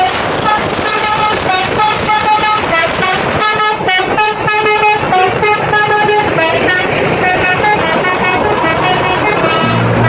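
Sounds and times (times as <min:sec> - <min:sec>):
bus horn playing a tune: 0:00.0 - 0:10.0
passing vehicle: 0:00.0 - 0:10.0.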